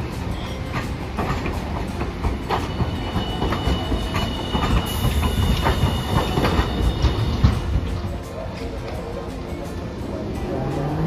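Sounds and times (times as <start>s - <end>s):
tram rumbling: 0.0s - 11.0s
wheels clicking over rail joints: 0.0s - 11.0s.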